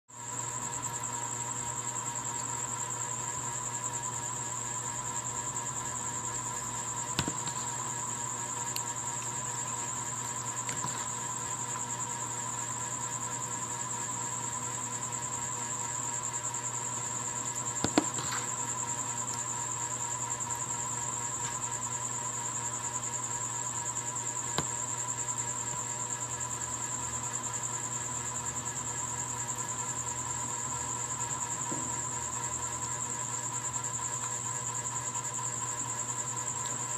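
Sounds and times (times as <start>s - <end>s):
insect trilling: 0.2s - 36.9s.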